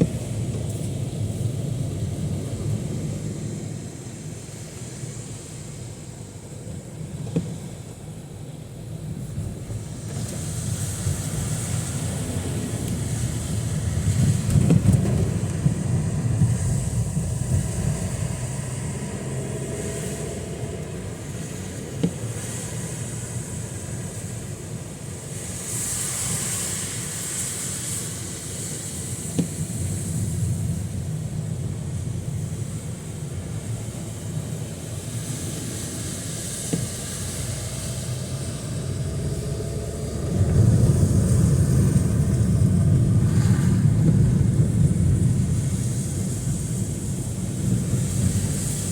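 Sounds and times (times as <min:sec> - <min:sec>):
engine rumble of passing traffic: 0:00.0 - 0:48.9
tyres hissing on wet road: 0:00.0 - 0:48.9.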